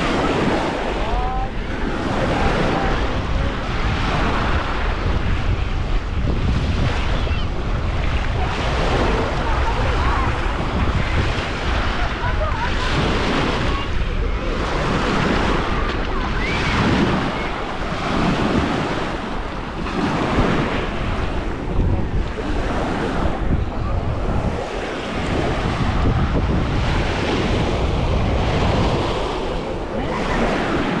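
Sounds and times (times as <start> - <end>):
waves washing on beach: 0.0 - 31.0
wind buffeting microphone: 0.0 - 31.0.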